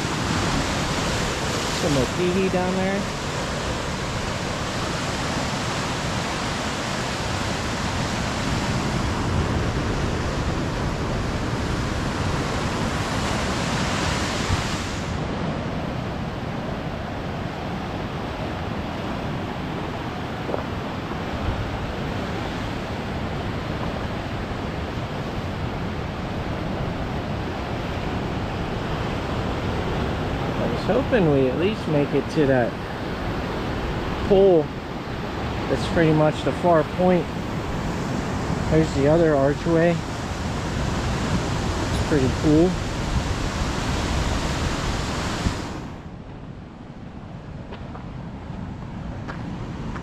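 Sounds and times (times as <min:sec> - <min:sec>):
ocean surf on rocks: 0:00.0 - 0:50.0
wind on microphone: 0:00.0 - 0:50.0.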